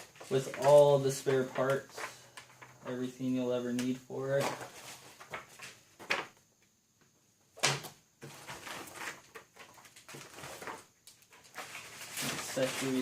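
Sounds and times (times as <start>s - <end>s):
cardboard and plastic rustling: 0.0s - 6.4s, 7.6s - 13.0s.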